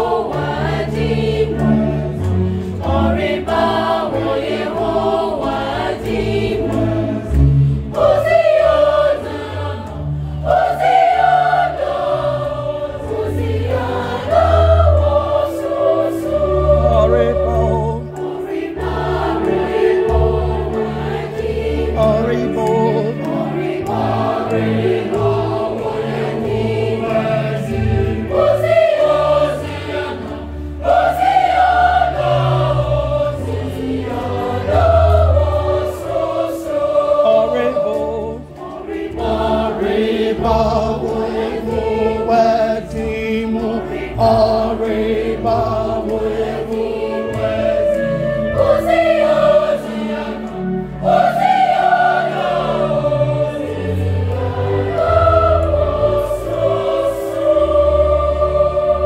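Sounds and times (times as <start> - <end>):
children's choir singing: 0.0 - 59.0.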